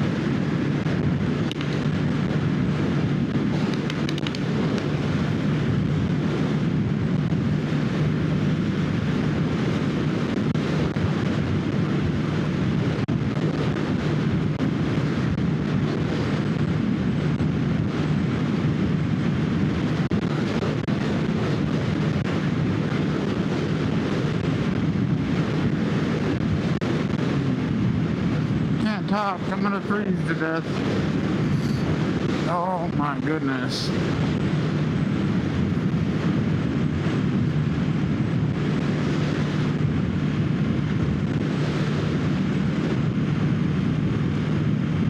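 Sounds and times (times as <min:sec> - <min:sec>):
wind rush on microphone: 0:00.0 - 0:45.0.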